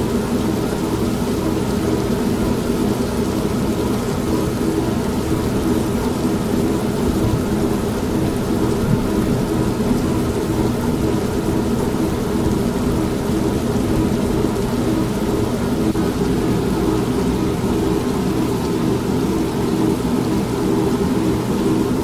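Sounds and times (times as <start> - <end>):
steady rain: 0.0 - 22.0
washing machine running: 0.0 - 22.0.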